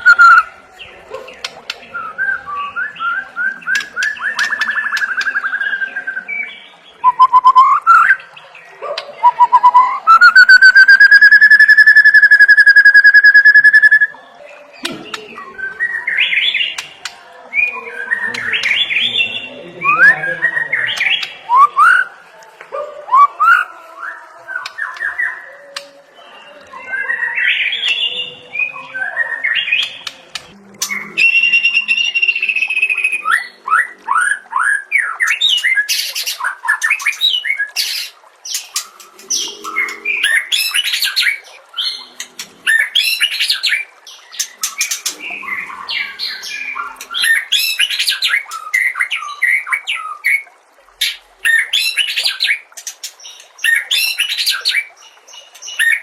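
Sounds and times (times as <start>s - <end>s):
bird singing varied song: 0.0s - 22.1s, 22.7s - 50.4s.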